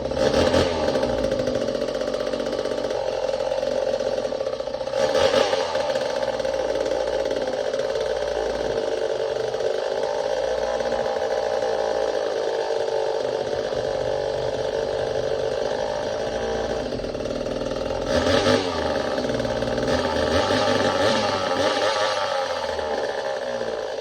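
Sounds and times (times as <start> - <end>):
chainsaw engine running: 0.0 - 24.0.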